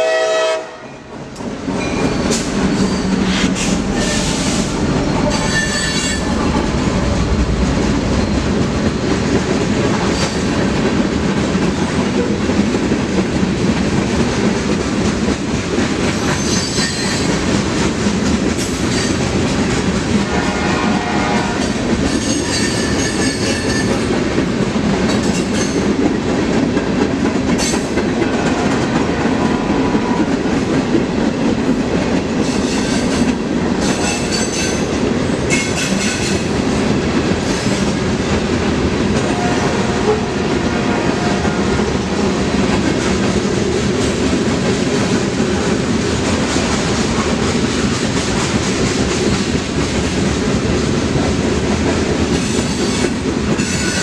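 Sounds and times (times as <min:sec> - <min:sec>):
freight train rumbling past: 0:00.0 - 0:54.0
train wheels clanking on rail: 0:01.2 - 0:54.0.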